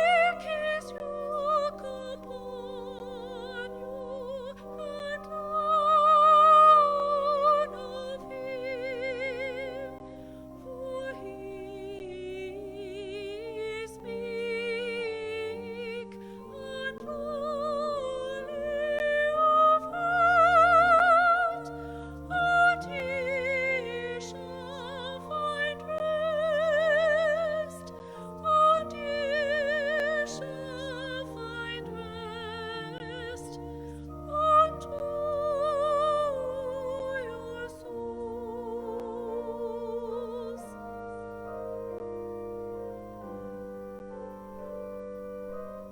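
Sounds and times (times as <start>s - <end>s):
person singing with vibrato: 0.0s - 41.4s
sustained keyboard accompaniment: 0.0s - 45.9s.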